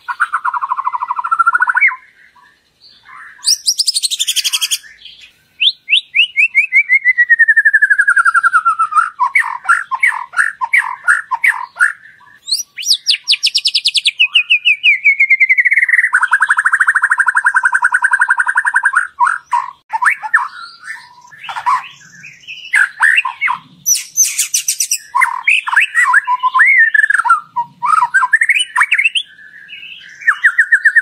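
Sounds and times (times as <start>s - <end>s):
songbird trilling: 0.0s - 31.0s.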